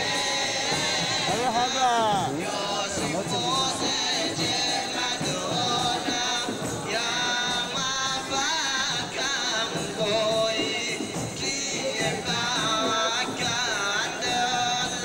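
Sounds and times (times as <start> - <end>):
men singing together: 0.0 - 15.0.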